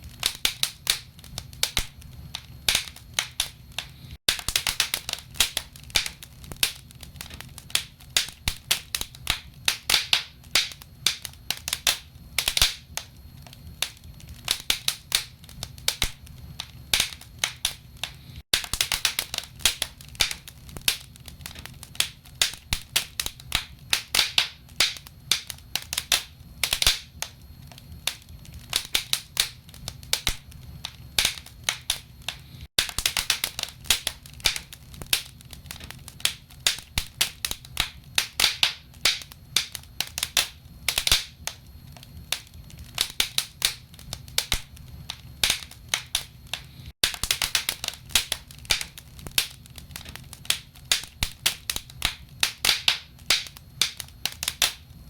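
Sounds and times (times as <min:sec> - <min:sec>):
low fire rumble: 0:00.0 - 0:55.0
wood fire crackling and popping: 0:00.0 - 0:55.0.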